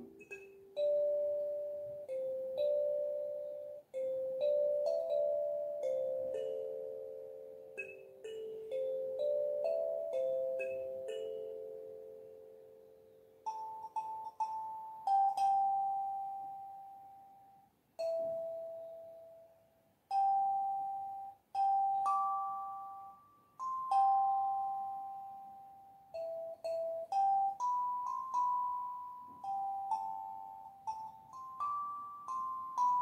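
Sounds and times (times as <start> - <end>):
kalimba melody: 0.0 - 33.0.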